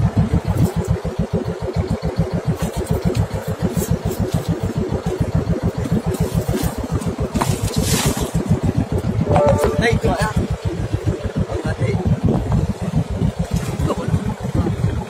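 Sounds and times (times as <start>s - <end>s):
boat engine pulsing: 0.0s - 15.0s.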